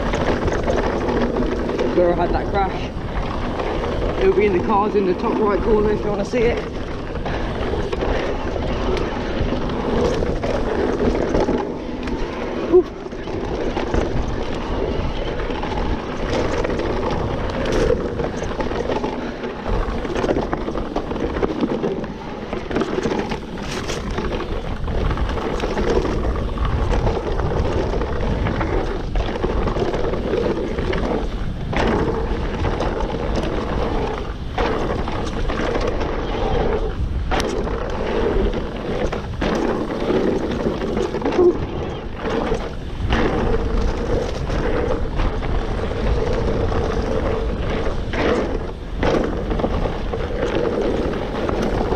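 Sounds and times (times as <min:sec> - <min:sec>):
bike rattling and knocking: 0:00.0 - 0:51.9
tyre and wind noise: 0:00.0 - 0:51.9.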